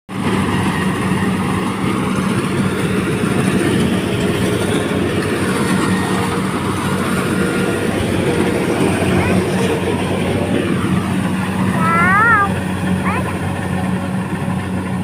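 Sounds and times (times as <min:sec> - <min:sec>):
harvesting machine engine hum: 0:00.1 - 0:15.0.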